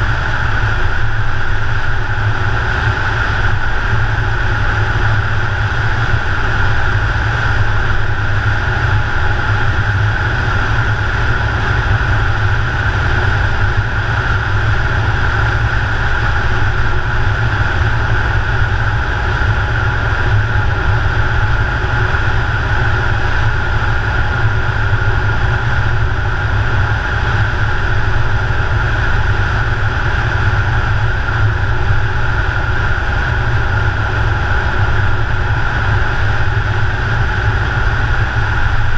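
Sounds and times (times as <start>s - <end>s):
car tyre and road noise: 0.0s - 38.9s.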